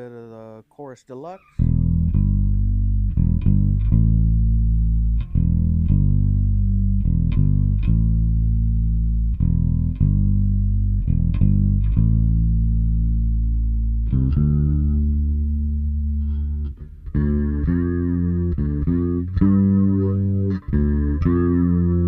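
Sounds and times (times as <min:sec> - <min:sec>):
electric bass guitar riff: 0:01.6 - 0:22.0.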